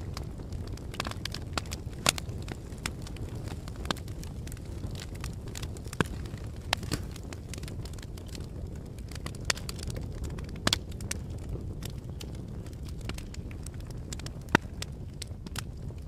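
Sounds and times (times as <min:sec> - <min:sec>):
fire crackling with pops: 0:00.0 - 0:16.0.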